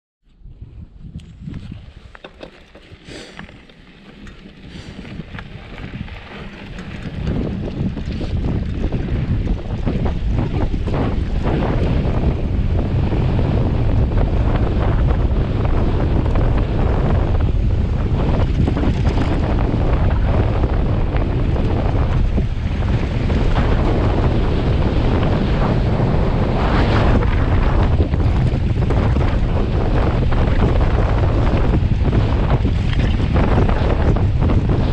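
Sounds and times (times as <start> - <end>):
wind buffeting microphone: 0.3 - 34.9.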